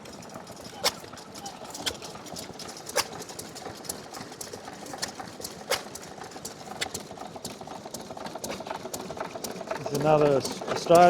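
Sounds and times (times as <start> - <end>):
petrol engine running: 0.0 - 11.0
steady background hum: 0.0 - 11.0
sharp exhaust pops: 0.6 - 11.0.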